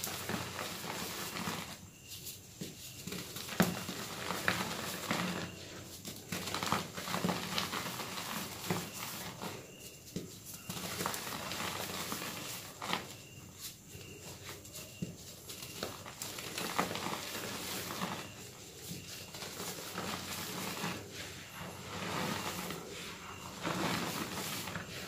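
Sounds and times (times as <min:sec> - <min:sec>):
chalk blocks crunching in hands: 0:00.0 - 0:25.0
patter of falling bits: 0:00.0 - 0:25.0.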